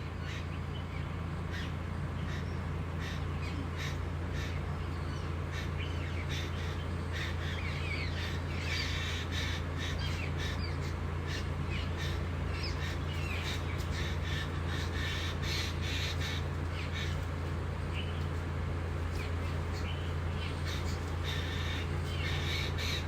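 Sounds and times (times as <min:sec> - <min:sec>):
birds calling: 0:00.0 - 0:23.0
birds twittering: 0:00.0 - 0:23.0
steady low hum: 0:00.0 - 0:23.0.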